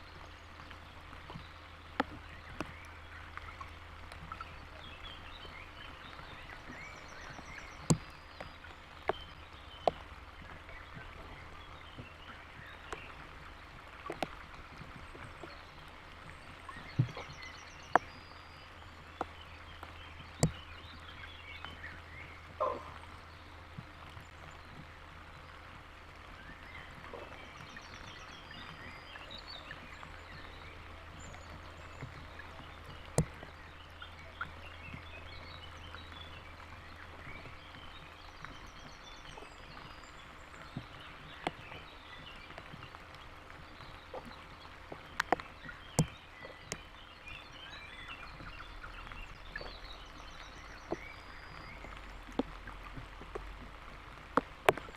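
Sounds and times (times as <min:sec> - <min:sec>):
faint bird calls: 0:00.0 - 0:53.4
rain falling: 0:00.0 - 0:54.9.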